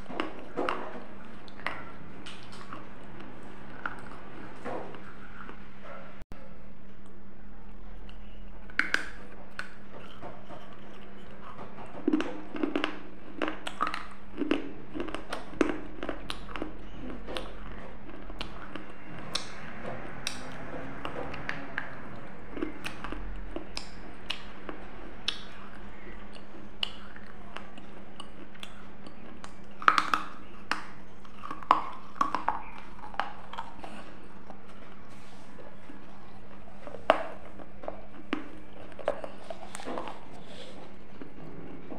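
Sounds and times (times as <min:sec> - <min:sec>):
crunching bites and chewing: 0:08.0 - 0:41.9.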